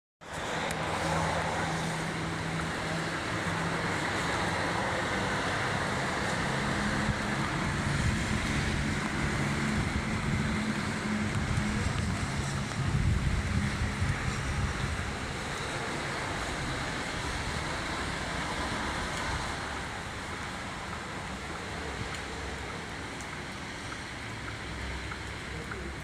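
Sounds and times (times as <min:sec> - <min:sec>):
rain hissing: 0:00.2 - 0:26.0
vehicle engine humming: 0:00.2 - 0:26.0.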